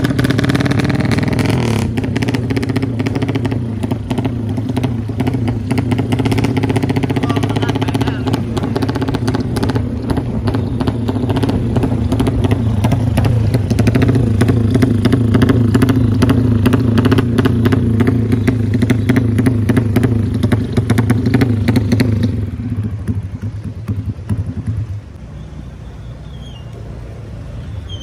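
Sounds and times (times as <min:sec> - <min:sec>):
racing motorcycle engine running: 0:00.0 - 0:28.0.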